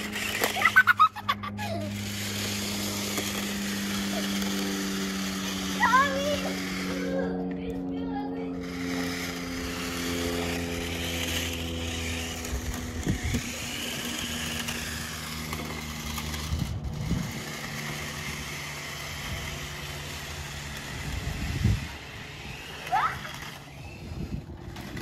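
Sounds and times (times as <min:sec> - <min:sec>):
toy car electric motors whining: 0:00.0 - 0:25.0.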